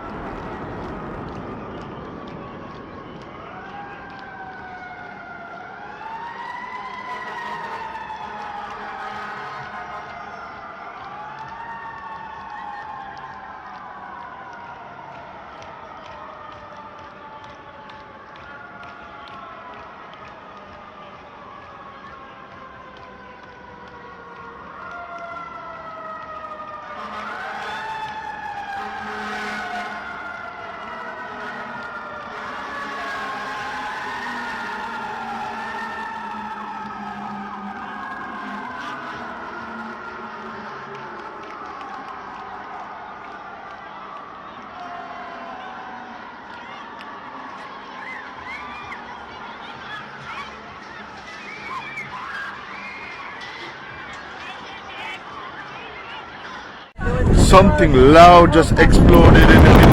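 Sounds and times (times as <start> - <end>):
emergency siren wailing: 0.0 - 55.3, 57.0 - 59.9
city street noise: 0.0 - 59.9.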